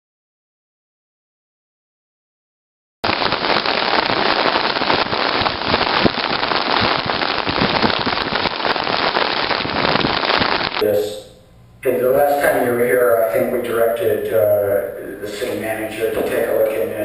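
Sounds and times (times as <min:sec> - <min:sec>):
heavy rain rushing hiss: 0:03.1 - 0:17.0.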